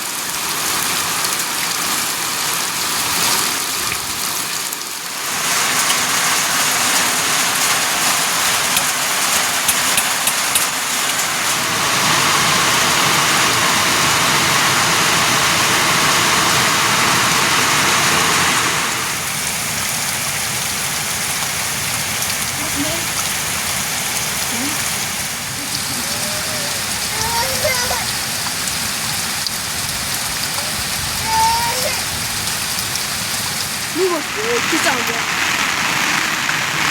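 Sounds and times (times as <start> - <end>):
steady rain falling: 0.0 - 36.9
sharp raindrop impacts: 2.8 - 36.9.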